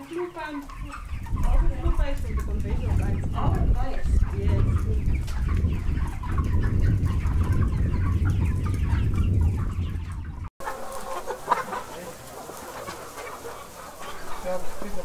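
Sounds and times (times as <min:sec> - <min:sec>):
chickens clucking and calling: 0:00.0 - 0:15.0.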